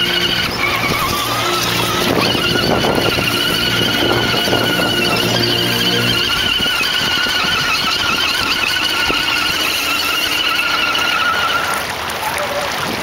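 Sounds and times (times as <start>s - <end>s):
rc car motor whining: 0.0s - 11.9s
stream splashing and rushing: 0.0s - 13.0s.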